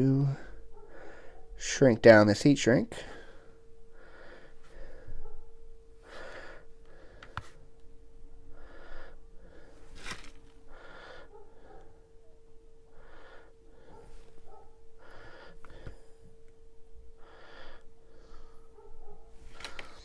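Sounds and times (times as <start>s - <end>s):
faint steady hum: 0.0s - 20.0s
person breathing: 0.3s - 1.6s, 3.0s - 7.7s, 8.3s - 12.2s, 12.8s - 20.0s.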